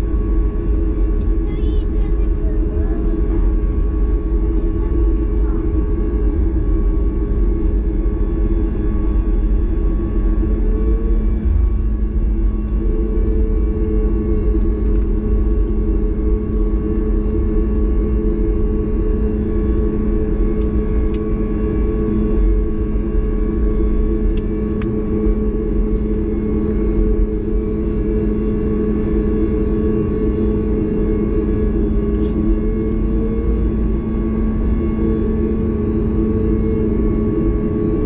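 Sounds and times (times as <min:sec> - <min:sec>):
aircraft cabin rumble: 0:00.0 - 0:38.0
jet engine hum: 0:00.0 - 0:38.0.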